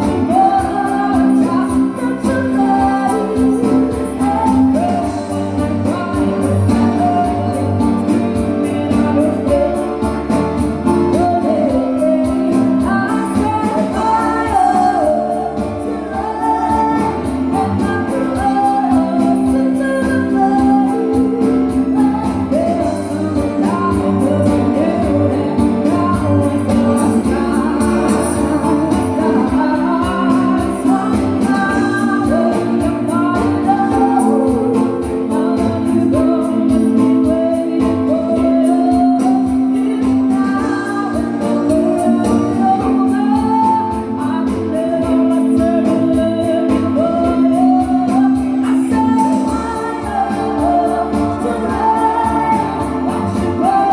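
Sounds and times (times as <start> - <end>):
guitar chords: 0.0 - 53.9
person singing: 0.0 - 53.9.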